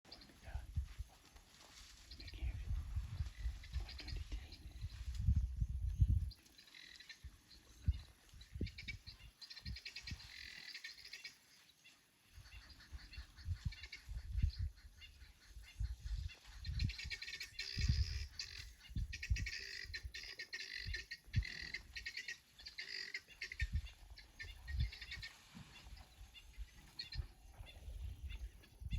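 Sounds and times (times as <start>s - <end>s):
birds chirping in trills: 2.1s - 28.9s.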